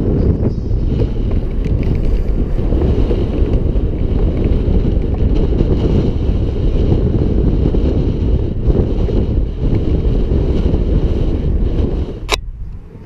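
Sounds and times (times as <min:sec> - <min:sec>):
skateboard wheels rolling on concrete: 0:00.0 - 0:13.0
wind buffeting microphone: 0:00.0 - 0:13.0.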